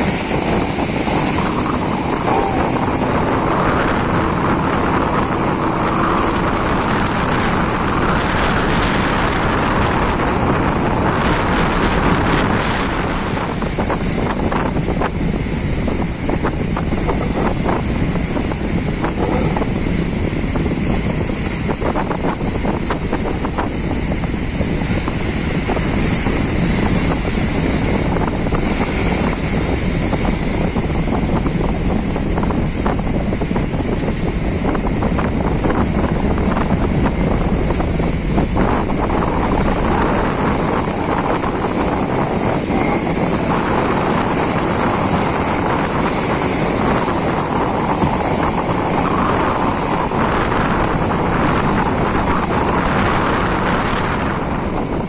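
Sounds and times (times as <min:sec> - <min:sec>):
waves breaking: 0:00.0 - 0:55.0
wind rushing over microphone: 0:00.0 - 0:55.0.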